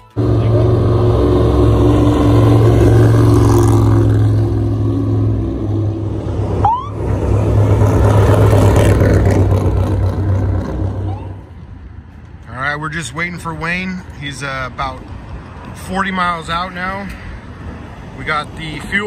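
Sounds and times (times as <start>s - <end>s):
truck engines running loud: 0.0s - 19.0s.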